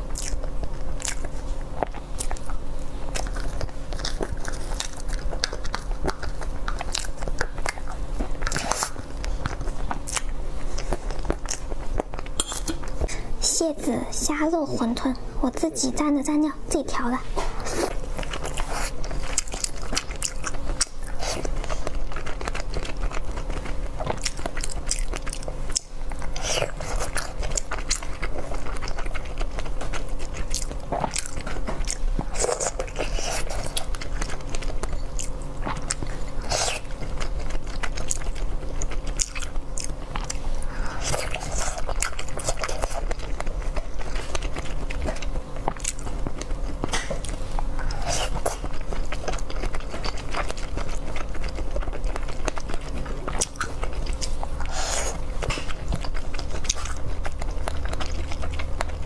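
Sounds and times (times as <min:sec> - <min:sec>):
biting and chewing soft food: 0:00.0 - 0:59.0.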